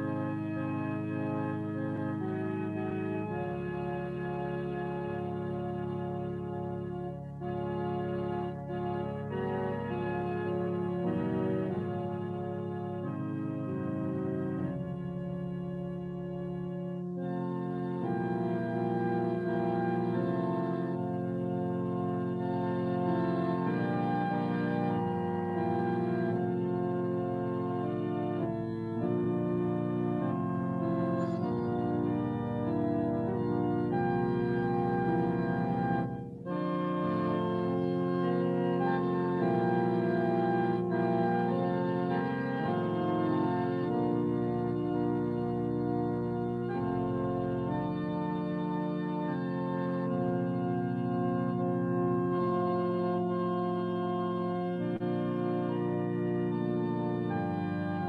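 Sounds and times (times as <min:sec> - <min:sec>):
organ playing held chords: 0:00.0 - 0:58.0.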